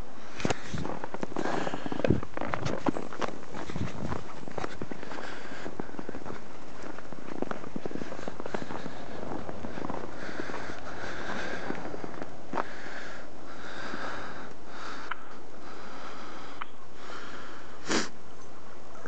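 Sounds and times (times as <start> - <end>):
footsteps crunching through snow: 0.0 - 16.5.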